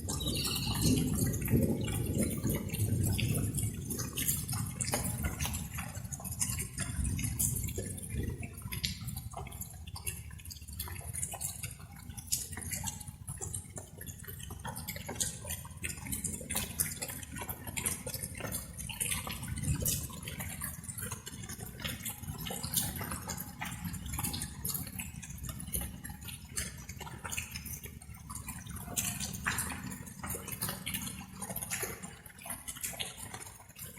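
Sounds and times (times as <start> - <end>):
light rain dripping and splashing: 0.0 - 33.9.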